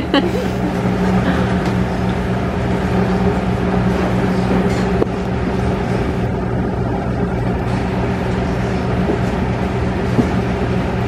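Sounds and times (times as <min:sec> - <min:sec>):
low buzzy mechanical hum: 0:00.0 - 0:11.0.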